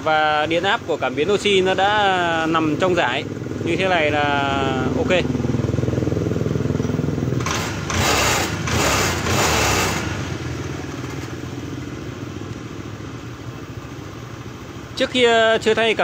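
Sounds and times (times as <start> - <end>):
scooter engine revving and idling: 0.0 - 16.0.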